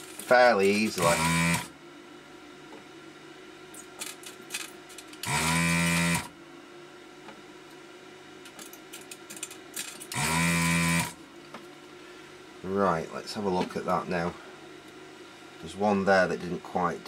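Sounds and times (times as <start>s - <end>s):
vacuum pump buzzing hum: 0.0s - 17.0s.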